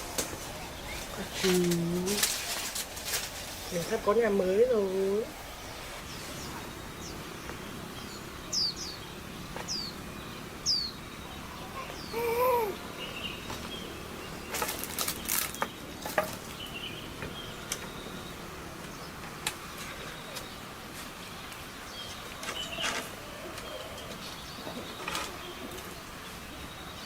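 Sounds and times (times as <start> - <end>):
faint chirping: 3.5 - 27.0.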